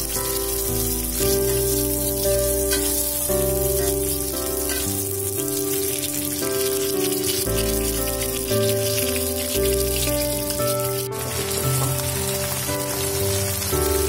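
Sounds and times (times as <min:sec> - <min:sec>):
background music held notes: 0:00.0 - 0:14.0
oil sizzling in a wok: 0:00.0 - 0:14.0.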